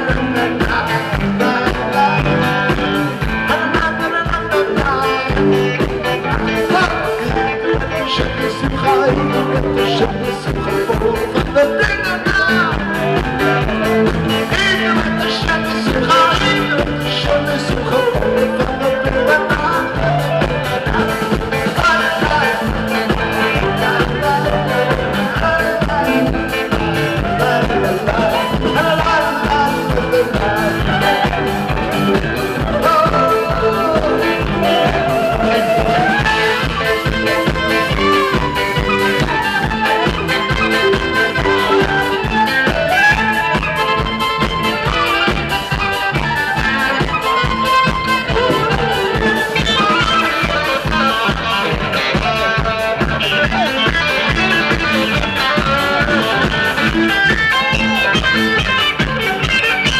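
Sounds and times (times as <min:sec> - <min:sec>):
drums: 0:00.0 - 0:59.9
electric guitar: 0:00.0 - 0:59.9
man singing: 0:00.0 - 0:59.9
saxophone: 0:00.0 - 0:59.9.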